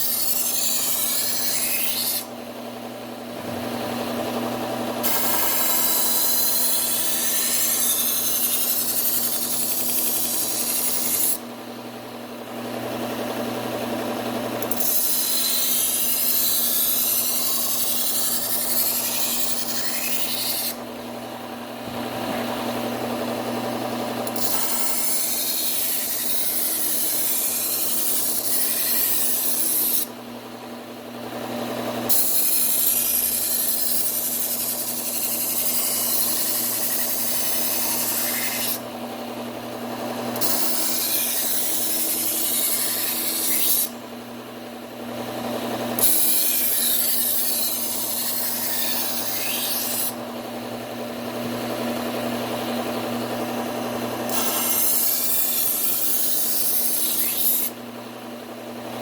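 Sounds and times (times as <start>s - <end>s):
knife grinding on sander belt: 0.0s - 2.4s, 3.4s - 11.5s, 12.7s - 21.2s, 21.9s - 30.2s, 31.4s - 44.1s, 45.0s - 57.9s
belt sander motor hum: 0.0s - 59.0s.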